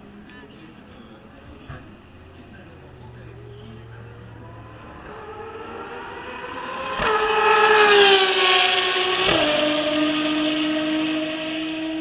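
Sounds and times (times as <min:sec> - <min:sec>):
racing car engine passing: 0:01.7 - 0:12.0.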